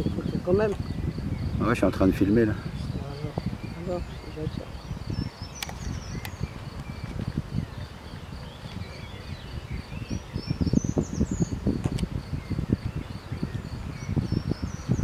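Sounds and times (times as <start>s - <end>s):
bird chirps: 0.0s - 15.0s
insects chirping: 0.0s - 15.0s
wind rumble on microphone: 0.0s - 15.0s.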